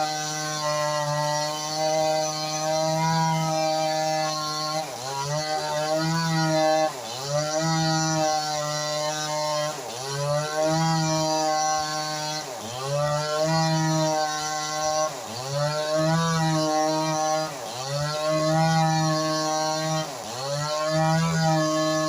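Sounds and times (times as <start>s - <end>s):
chainsaw engine revving: 0.0s - 22.0s.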